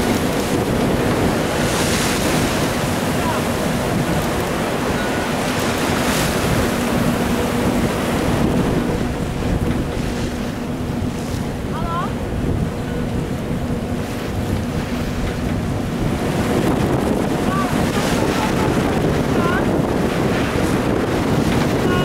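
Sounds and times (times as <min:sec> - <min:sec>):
boat engine droning: 0:00.0 - 0:22.0
choppy sea washing: 0:00.0 - 0:22.0
wind buffeting microphone: 0:00.0 - 0:22.0
seabird calling: 0:00.1 - 0:22.0.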